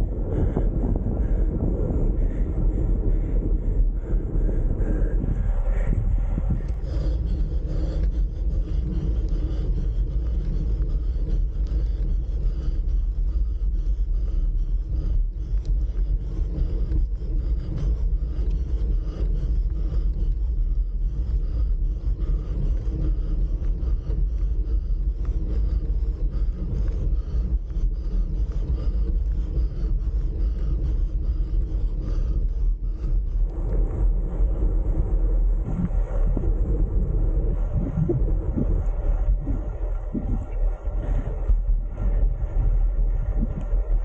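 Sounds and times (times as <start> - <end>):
wind noise on microphone: 0.0 - 44.0.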